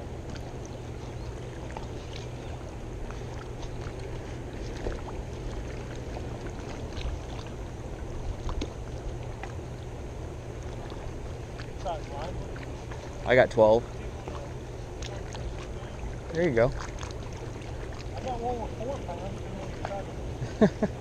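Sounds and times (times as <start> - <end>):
fast-flowing river water: 0.0 - 21.0.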